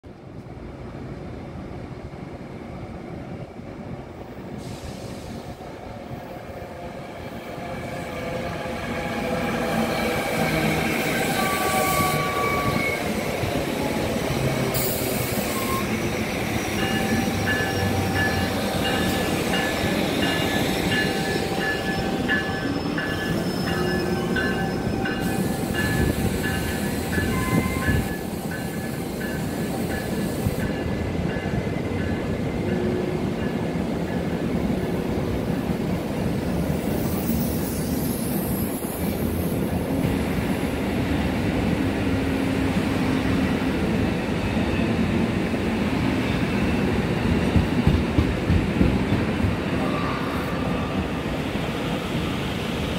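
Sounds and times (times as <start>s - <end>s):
passing train rumble: 0.1s - 52.9s.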